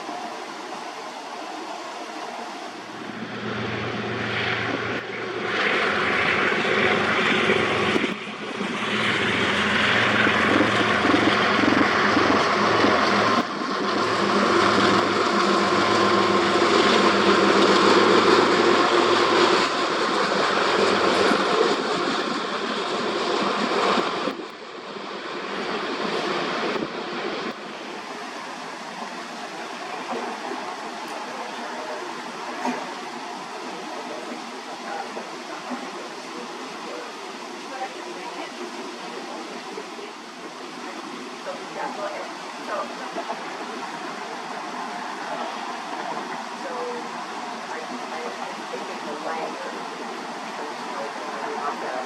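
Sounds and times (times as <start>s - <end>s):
locomotive engine drone: 0.0s - 52.0s
rushing rail noise: 0.0s - 52.0s.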